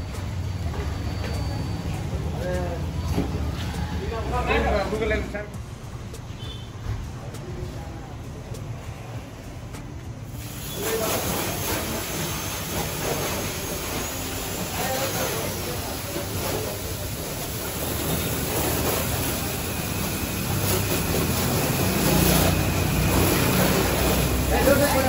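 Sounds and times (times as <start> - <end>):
car wash rushing noise: 0.0 - 25.0.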